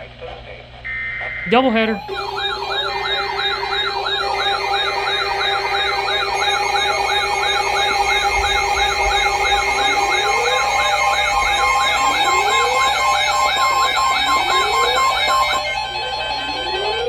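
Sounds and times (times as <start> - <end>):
steady alarm tones: 0.9 - 17.0
electronic siren warbling: 1.5 - 17.0
rising wailing tone: 2.0 - 16.8.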